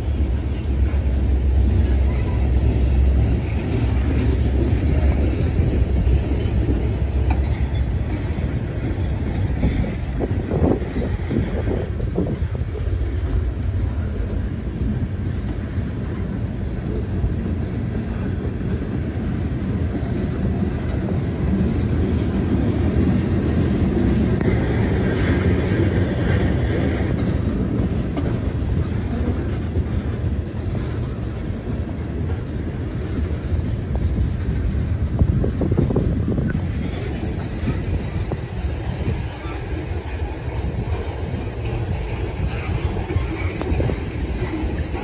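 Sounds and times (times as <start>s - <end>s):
freight train rolling past: 0.0s - 45.0s.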